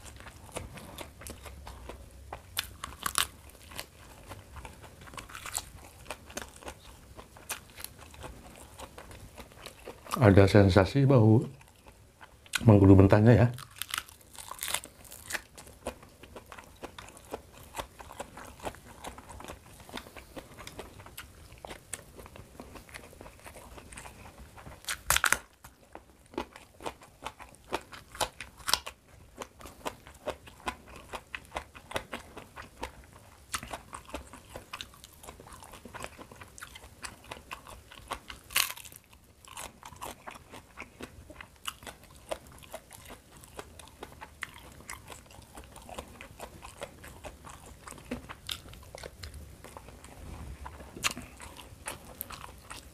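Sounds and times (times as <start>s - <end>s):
person chewing crunchy vegetables: 0.0s - 52.9s.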